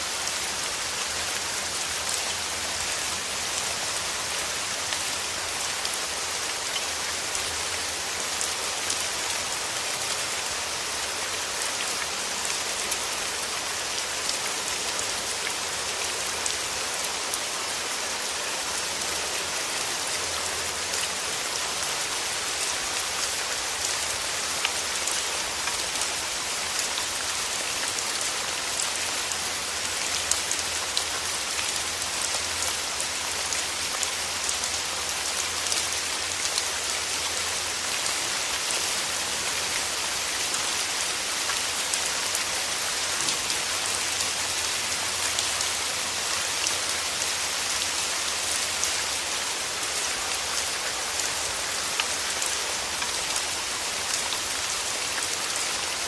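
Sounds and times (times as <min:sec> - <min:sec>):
rain on petals: 0:00.0 - 0:56.0.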